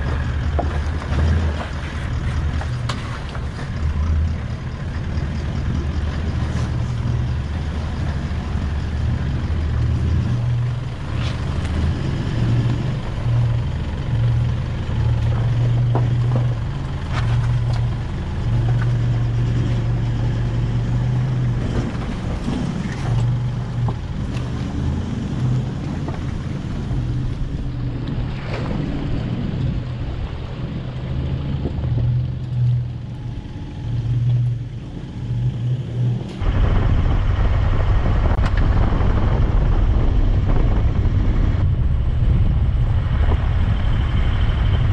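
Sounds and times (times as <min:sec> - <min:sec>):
diesel engines at low revs: 0:00.0 - 0:44.9.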